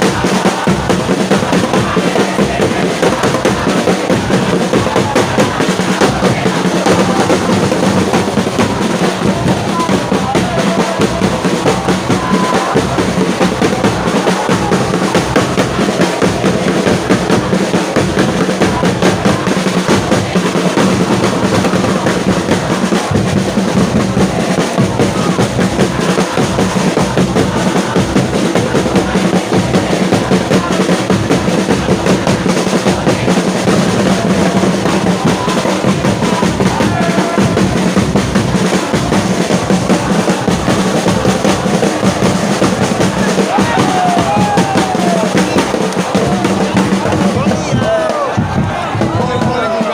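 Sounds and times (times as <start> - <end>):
crowd chanting and singing: 0.0 - 49.9
drums beating: 0.0 - 49.9.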